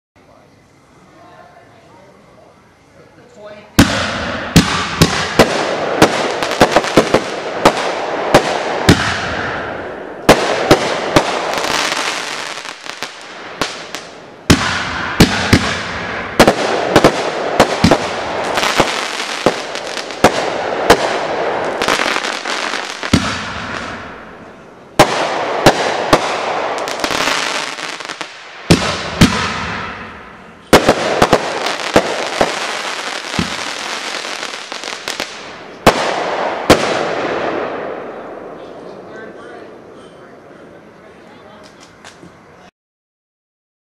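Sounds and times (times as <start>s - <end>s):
firework crackling: 0.6s - 42.6s.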